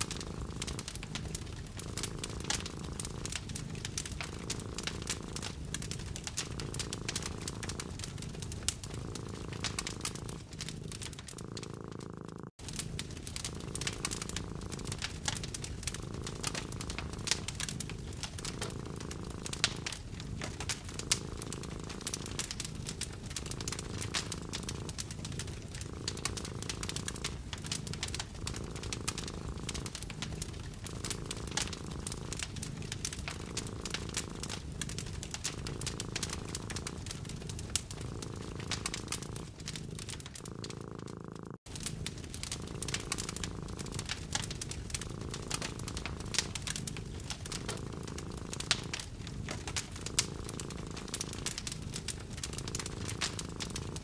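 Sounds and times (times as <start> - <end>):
cat purring: 0.0 - 54.0
wood fire crackling and popping: 0.0 - 54.0.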